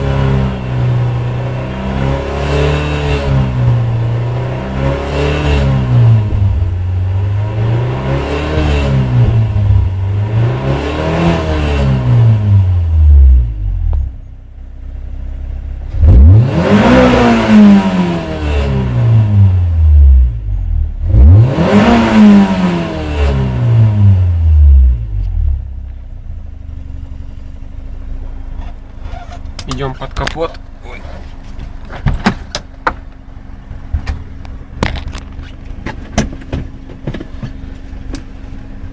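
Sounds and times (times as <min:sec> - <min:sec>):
car engine revving: 0:00.0 - 0:14.2, 0:14.9 - 0:38.9.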